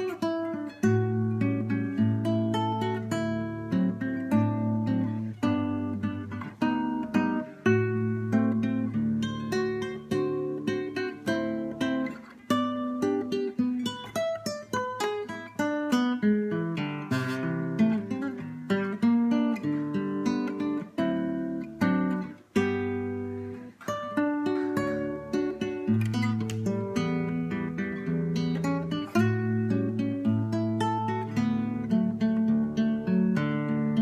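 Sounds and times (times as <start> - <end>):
fingerstyle acoustic guitar: 0.0 - 34.0.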